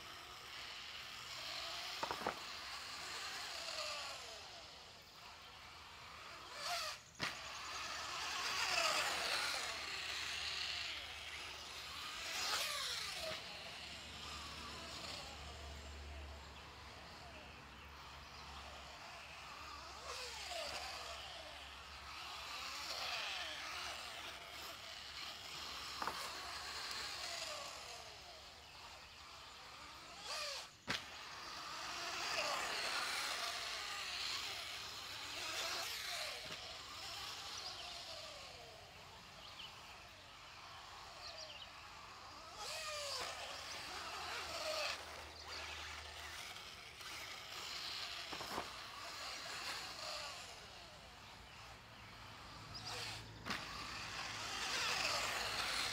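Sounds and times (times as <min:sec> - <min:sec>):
electric toy car motor whine: 0:00.0 - 0:55.9
tyres rustling on dirt: 0:01.4 - 0:38.8, 0:39.8 - 0:55.9.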